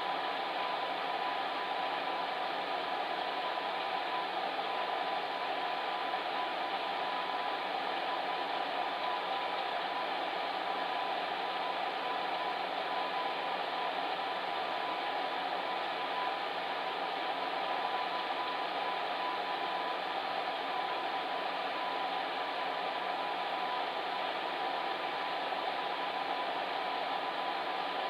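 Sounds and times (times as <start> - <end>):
faint steady tone: 0.0 - 28.0.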